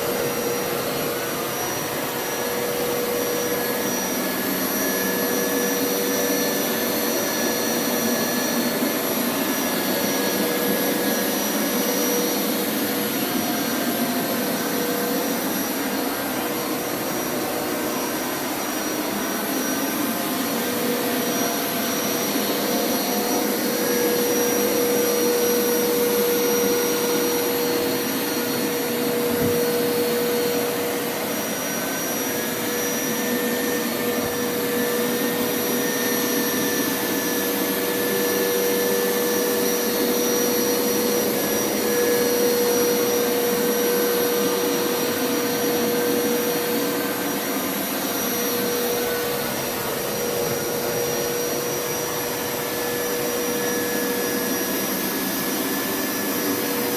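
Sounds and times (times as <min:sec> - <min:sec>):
carpet washer motor whine: 0:00.0 - 0:56.9.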